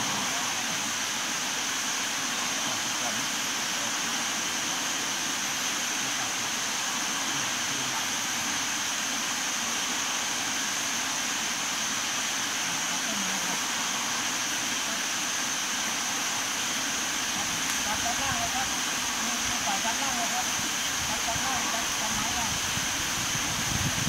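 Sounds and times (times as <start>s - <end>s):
constant high-pitched whine: 0.0s - 24.0s
even hiss: 0.0s - 24.0s.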